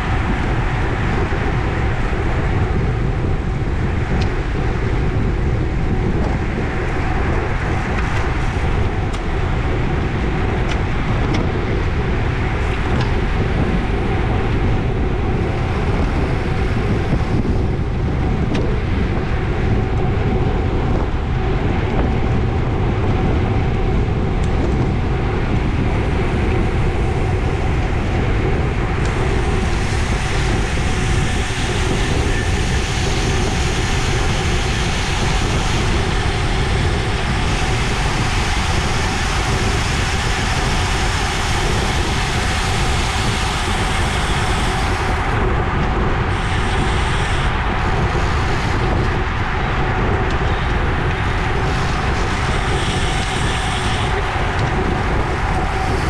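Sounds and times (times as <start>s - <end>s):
road noise: 0.0s - 56.0s
wind rush: 0.0s - 56.0s.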